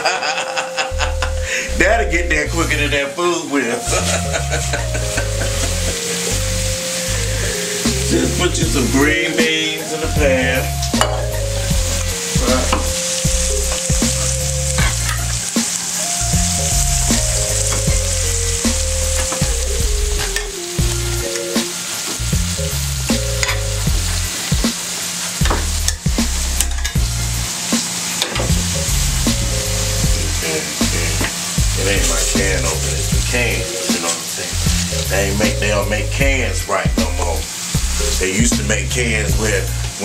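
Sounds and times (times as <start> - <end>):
low background music: 0.0 - 40.0
potatoes sizzling in oil: 0.1 - 40.0.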